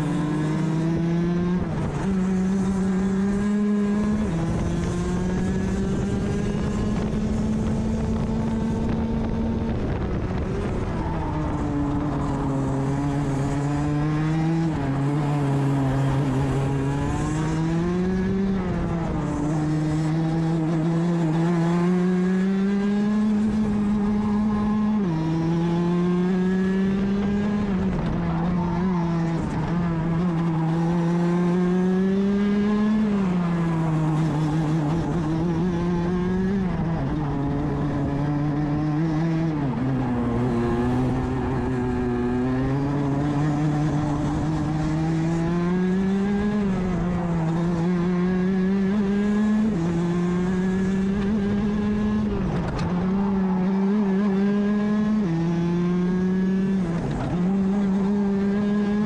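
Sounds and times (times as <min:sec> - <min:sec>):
kart engine accelerating: 0:00.0 - 0:59.0.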